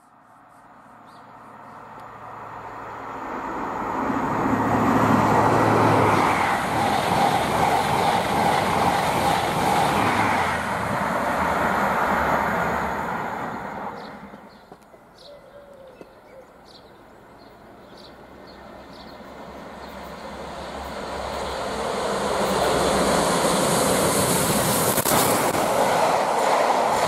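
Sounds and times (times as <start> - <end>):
steam train passing: 0.0 - 15.1, 17.0 - 27.0.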